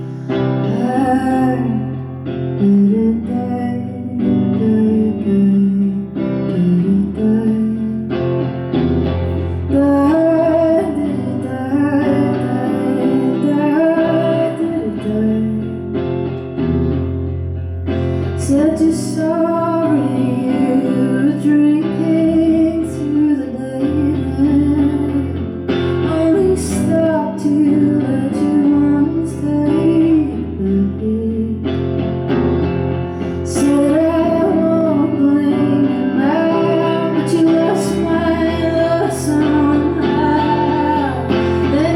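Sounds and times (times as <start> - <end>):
woman singing: 0.0 - 8.6, 9.4 - 16.0, 18.2 - 32.0, 33.2 - 41.9
guitar playing: 0.0 - 41.9.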